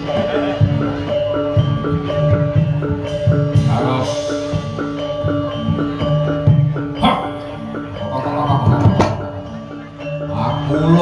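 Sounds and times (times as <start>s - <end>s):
metallophone notes: 0.0s - 11.0s.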